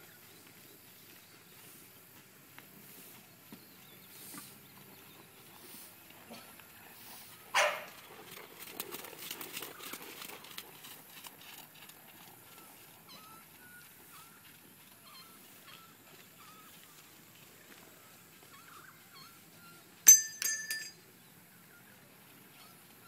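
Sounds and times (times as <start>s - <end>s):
horse hoofbeats on sand: 0.0s - 18.7s.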